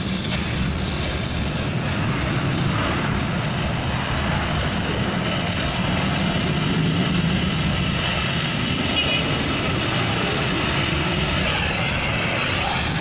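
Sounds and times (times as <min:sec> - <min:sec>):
gas torch roaring: 0:00.0 - 0:13.0.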